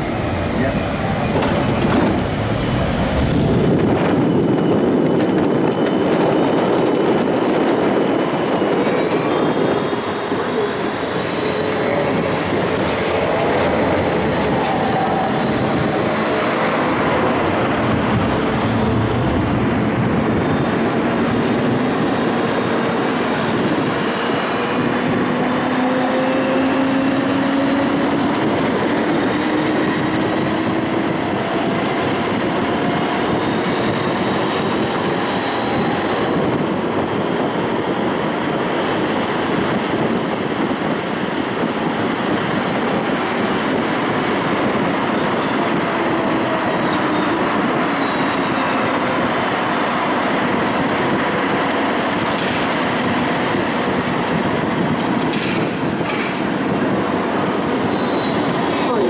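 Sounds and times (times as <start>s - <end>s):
tram motor whine: 0.0s - 59.0s
tram wheels rumbling: 0.0s - 59.0s.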